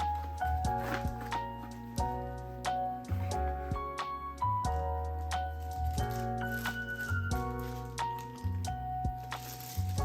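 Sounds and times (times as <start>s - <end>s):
melodic background music: 0.0s - 10.0s.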